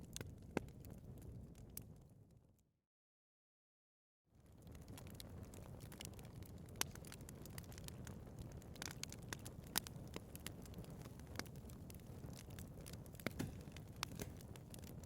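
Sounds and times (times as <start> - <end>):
wood fire crackling and popping: 0.0 - 2.0, 4.4 - 15.0
low rumble of flames: 0.0 - 2.5, 4.3 - 15.0.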